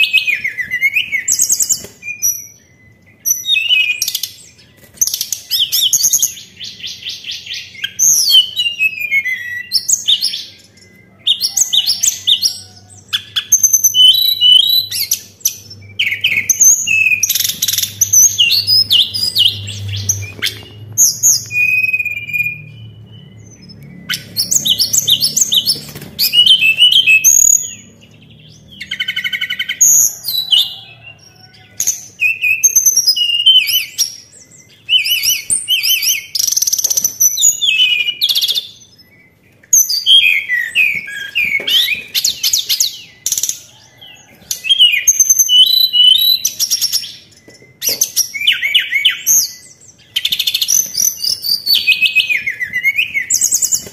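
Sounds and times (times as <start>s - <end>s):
songbird whistling and chirping: 0.0s - 53.9s.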